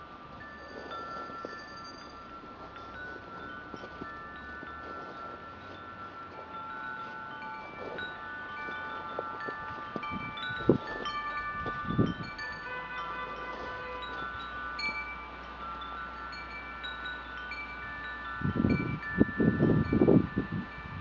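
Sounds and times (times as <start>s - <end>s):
chimes ringing: 0.0s - 21.0s.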